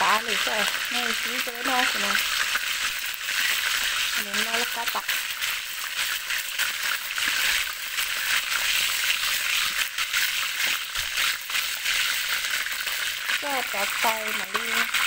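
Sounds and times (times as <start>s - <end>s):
cooking oil sizzling in a pot: 0.0s - 15.0s.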